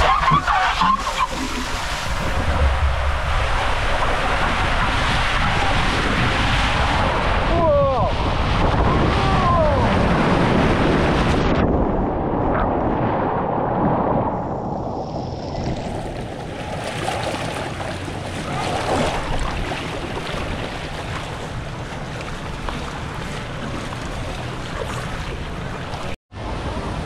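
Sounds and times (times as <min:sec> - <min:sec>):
water rushing and splashing: 0:00.0 - 0:11.5, 0:13.8 - 0:27.0
wind buffeting microphone: 0:01.6 - 0:27.0.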